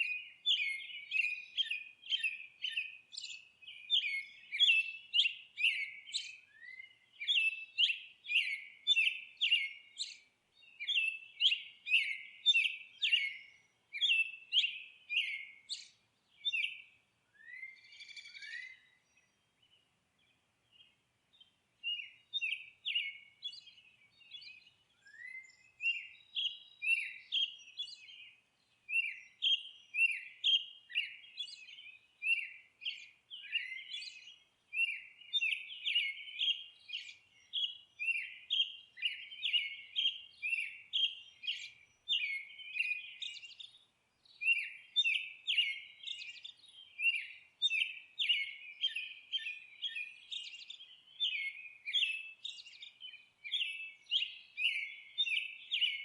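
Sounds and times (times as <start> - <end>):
songbirds whistling: 0.0 - 19.9, 20.7 - 56.0.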